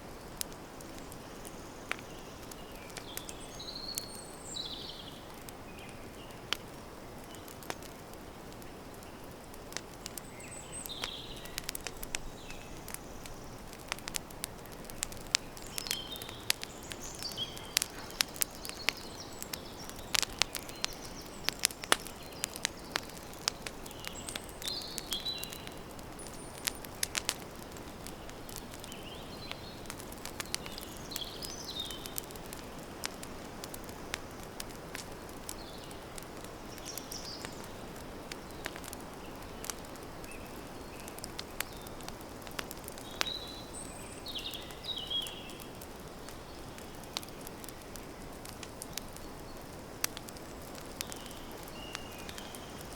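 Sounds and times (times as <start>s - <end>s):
campfire crackling: 0.0s - 52.9s
birds chirping: 0.3s - 6.6s, 10.0s - 52.9s.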